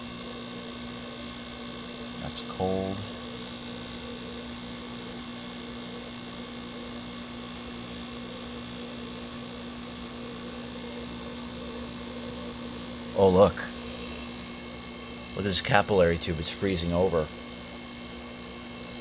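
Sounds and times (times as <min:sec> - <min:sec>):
window air conditioner humming: 0:00.0 - 0:19.0.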